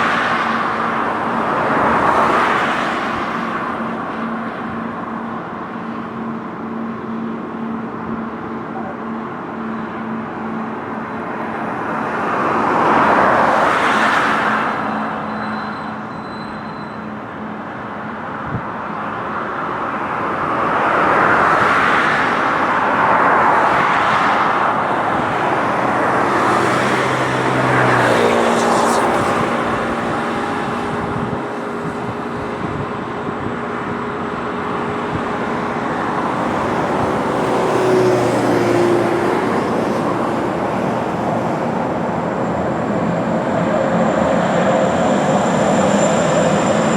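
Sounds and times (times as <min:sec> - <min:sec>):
background traffic: 0:00.0 - 0:46.9
cars passing close by: 0:00.0 - 0:46.9.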